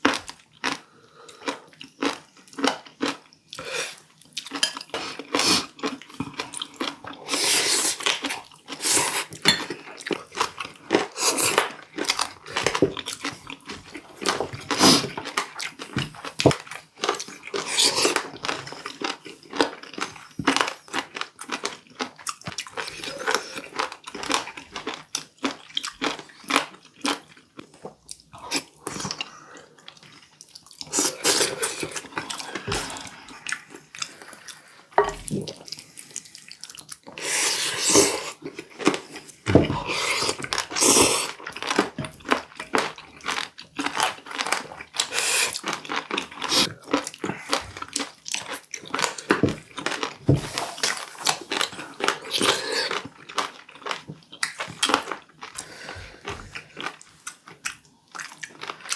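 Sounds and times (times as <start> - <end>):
chewing and crunching: 0.0 - 58.9.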